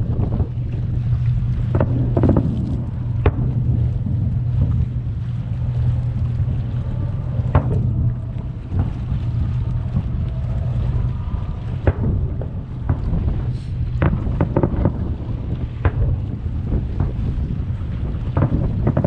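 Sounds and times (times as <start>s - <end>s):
steady low rumble: 0.0s - 19.0s
distant fireworks bangs: 1.4s - 10.8s, 11.6s - 19.0s.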